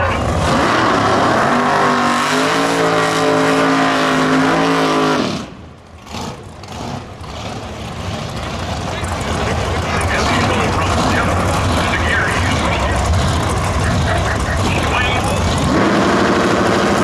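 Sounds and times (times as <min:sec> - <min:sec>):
muscle car engine at full throttle: 0:00.0 - 0:17.0.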